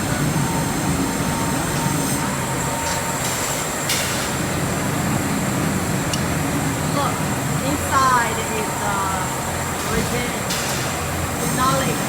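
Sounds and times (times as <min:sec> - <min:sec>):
production line machinery running: 0:00.0 - 0:12.0.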